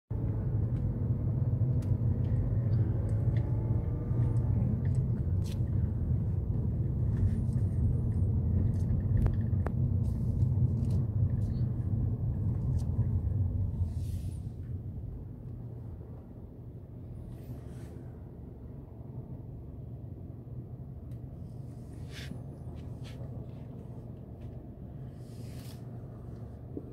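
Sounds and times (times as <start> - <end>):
car engine: 0.1 - 26.9
road rumble: 0.1 - 26.9.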